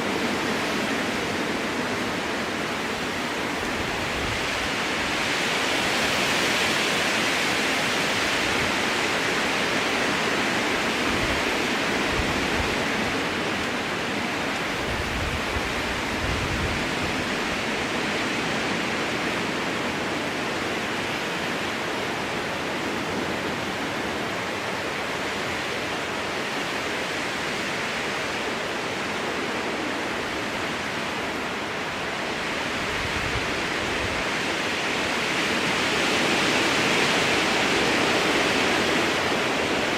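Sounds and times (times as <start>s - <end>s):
strong wind through trees: 0.0s - 39.9s.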